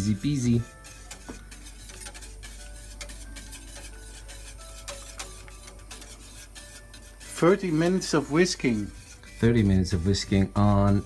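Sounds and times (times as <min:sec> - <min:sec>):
soft background music: 0:00.0 - 0:11.0
whisk scraping a saucepan: 0:00.0 - 0:11.0.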